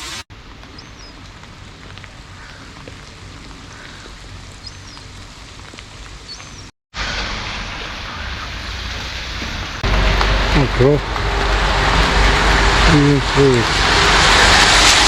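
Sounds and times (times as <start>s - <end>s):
pouring rain: 0.0s - 15.0s.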